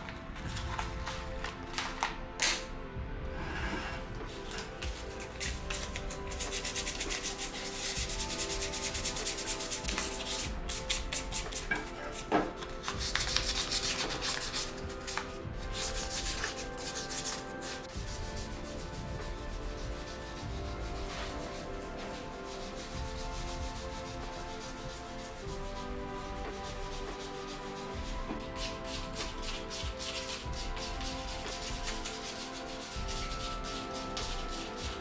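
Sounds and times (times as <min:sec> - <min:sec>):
sandpaper scratching on metal: 0:03.7 - 0:35.0.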